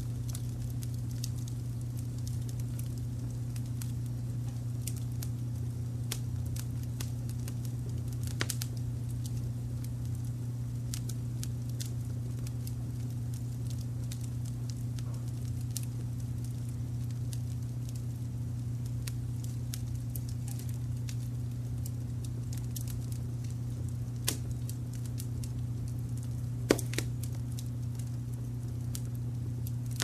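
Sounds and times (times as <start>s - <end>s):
low fire rumble: 0.0s - 30.0s
wood fire pops and snaps: 0.0s - 30.0s.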